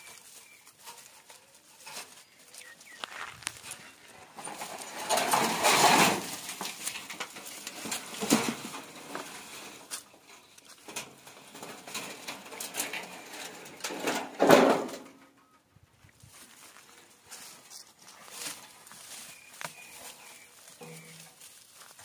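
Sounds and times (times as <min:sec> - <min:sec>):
dogs rustling and scuffling: 0:00.0 - 0:13.5, 0:16.2 - 0:22.0.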